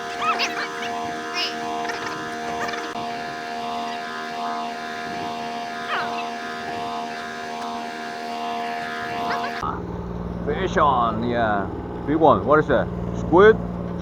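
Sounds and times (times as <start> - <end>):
boat machinery drone: 0.0 - 14.0.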